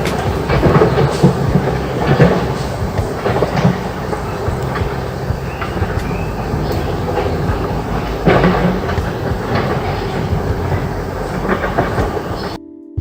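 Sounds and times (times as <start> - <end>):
clattering clicks and knocks: 0.0 - 12.6
mechanical rumble: 0.0 - 12.6.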